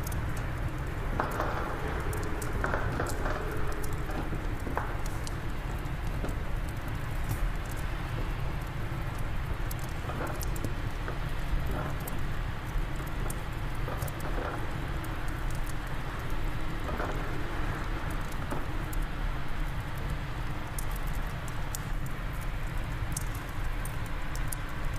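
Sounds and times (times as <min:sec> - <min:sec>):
fire crackling and popping: 0:00.0 - 0:24.9
low rumble of wind: 0:00.0 - 0:24.9.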